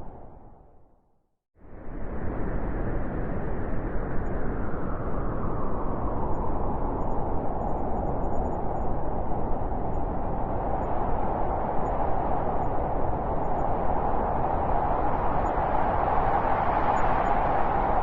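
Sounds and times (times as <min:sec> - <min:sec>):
howling blizzard wind: 0:01.6 - 0:18.0.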